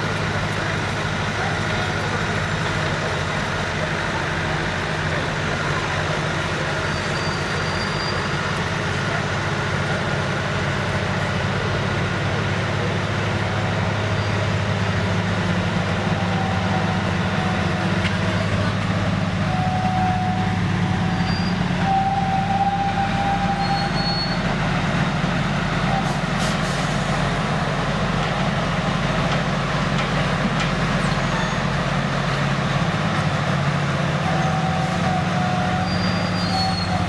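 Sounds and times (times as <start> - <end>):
heavy vehicle engine droning: 0.0 - 37.0.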